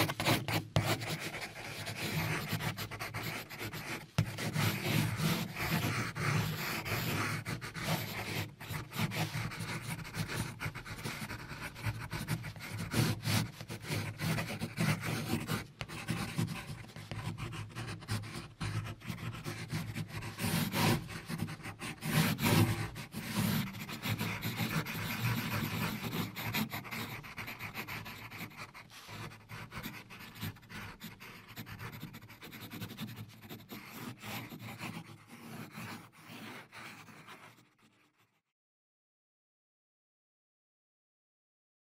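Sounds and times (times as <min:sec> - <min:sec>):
pencil scratching on paper: 0:00.0 - 0:38.5.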